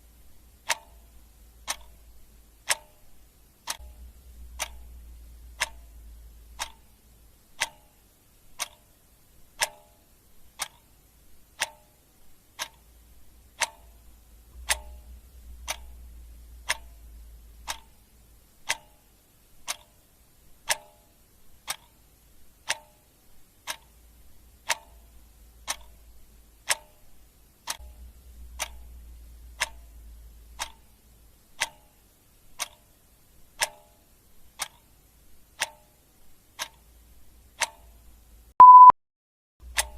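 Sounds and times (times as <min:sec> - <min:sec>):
clock ticking: 0:00.0 - 0:38.9, 0:39.6 - 0:39.9
faint low hum: 0:00.0 - 0:38.9.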